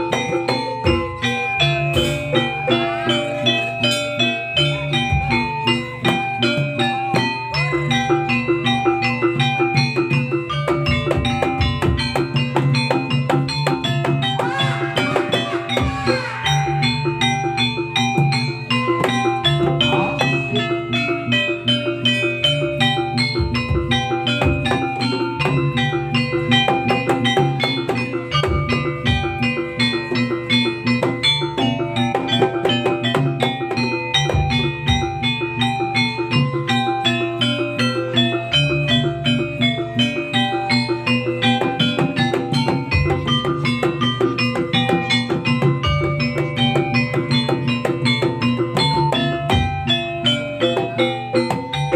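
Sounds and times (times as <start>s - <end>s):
drums: 0.0s - 51.9s
gongs and metallophones: 0.0s - 51.9s.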